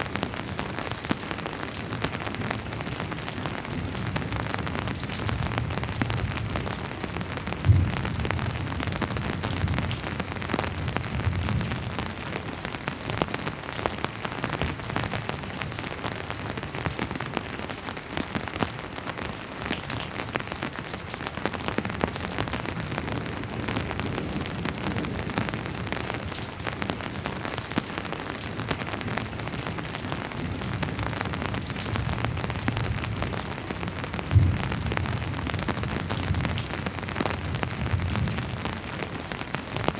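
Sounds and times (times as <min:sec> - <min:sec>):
sharp raindrop hit: 0:00.0 - 0:17.8, 0:20.8 - 0:39.9
steady rain: 0:00.0 - 0:39.9.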